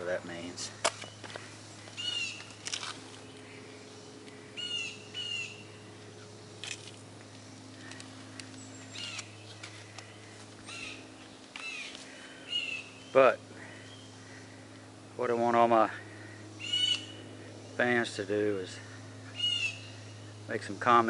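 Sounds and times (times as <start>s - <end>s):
steady low hum: 0.0s - 21.0s
bird chirping: 0.8s - 14.7s, 16.2s - 21.0s.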